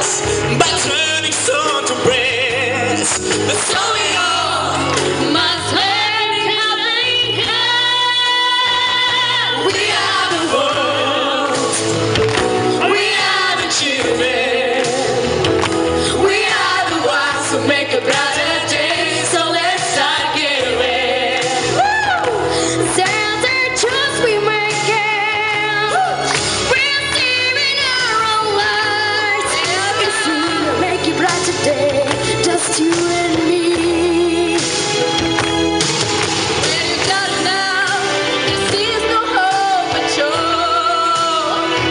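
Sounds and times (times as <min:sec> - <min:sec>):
backing music: 0:00.0 - 0:41.9
person singing pop song: 0:00.0 - 0:41.9.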